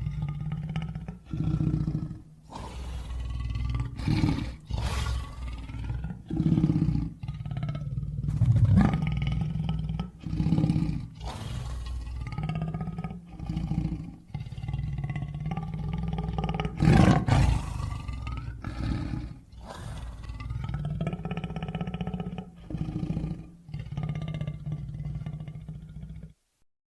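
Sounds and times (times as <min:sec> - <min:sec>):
lion roaring: 0:00.0 - 0:26.4.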